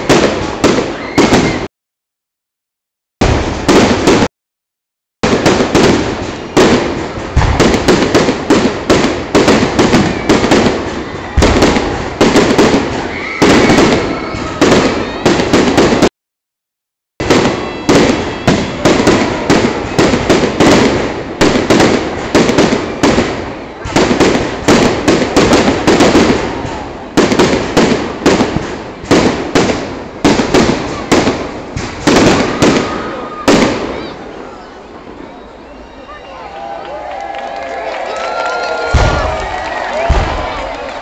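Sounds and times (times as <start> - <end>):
fireworks bangs and crackles: 0.0 - 1.7, 3.2 - 4.3, 5.2 - 16.1, 17.2 - 36.4, 37.1 - 41.0.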